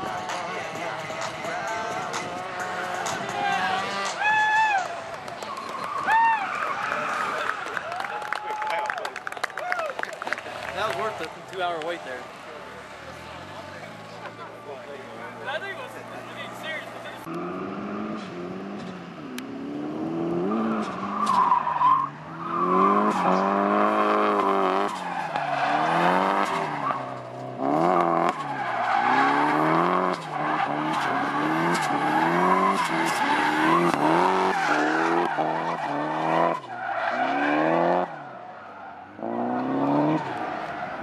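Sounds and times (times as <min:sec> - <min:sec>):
car engine revving: 0:00.0 - 0:07.7, 0:10.4 - 0:41.0.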